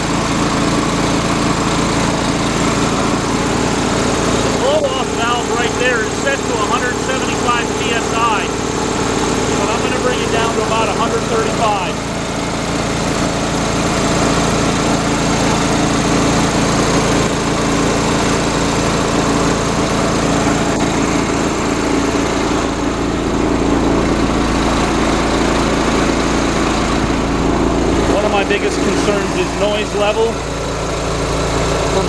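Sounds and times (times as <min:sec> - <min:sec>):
air compressor running: 0:00.0 - 0:32.0.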